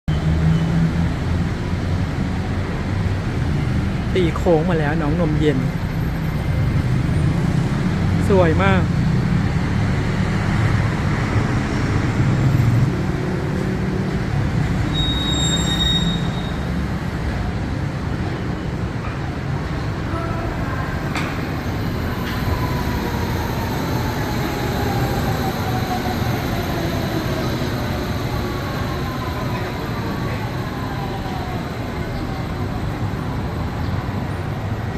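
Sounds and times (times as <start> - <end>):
monorail train running: 0.1 - 34.9
road traffic hum: 0.1 - 34.9.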